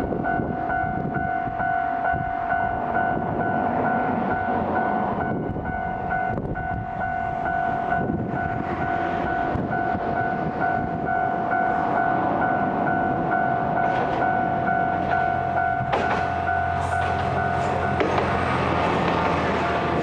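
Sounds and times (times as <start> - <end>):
train rumble with steady tone: 0.0 - 20.0.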